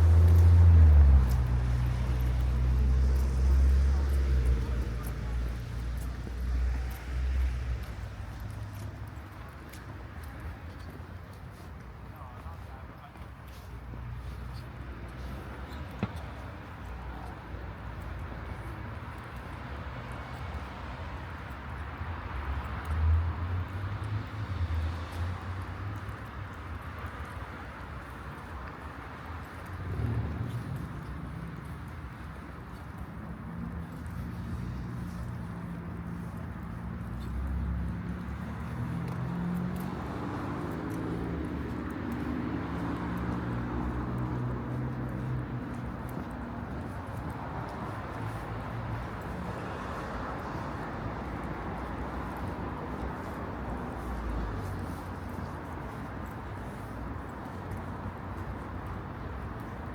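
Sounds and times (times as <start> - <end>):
distant traffic rumble: 0.0 - 59.9.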